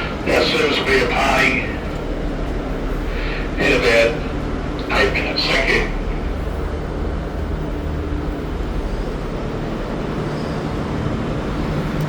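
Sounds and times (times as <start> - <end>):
faint constant tone: 0.0 - 12.0
train droning hum: 0.0 - 12.0.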